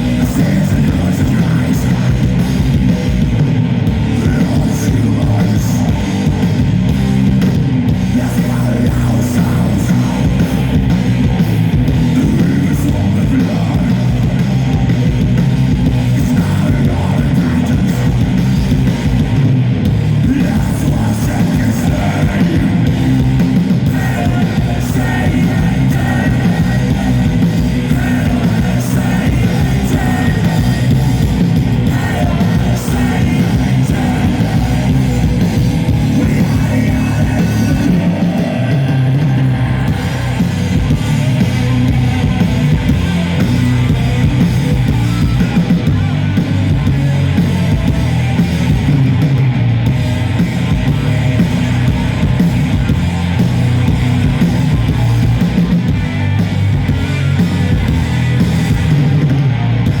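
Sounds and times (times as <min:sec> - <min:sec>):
bass guitar: 0:00.0 - 1:00.0
distorted guitars: 0:00.0 - 1:00.0
drums: 0:00.0 - 1:00.0.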